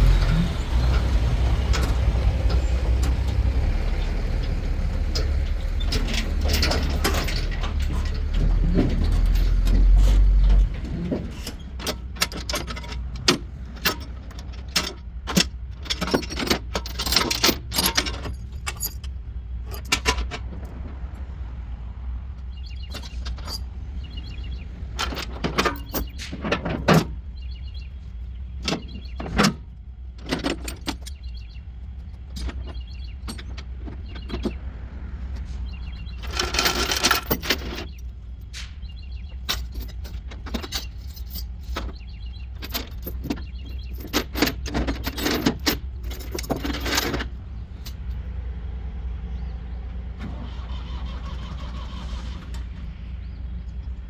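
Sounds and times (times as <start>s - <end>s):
metallic clanks and rattles: 0.0s - 21.3s, 22.3s - 48.3s
engine droning: 0.0s - 54.0s.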